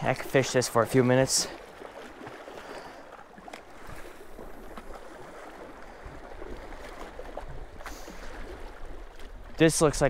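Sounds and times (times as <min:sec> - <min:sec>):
waves lapping against rocks: 0:00.0 - 0:10.0.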